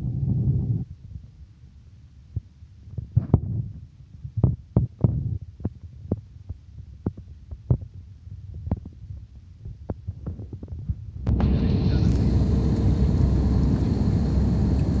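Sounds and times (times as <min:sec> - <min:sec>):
airliner cabin rumble: 0:02.9 - 0:15.0.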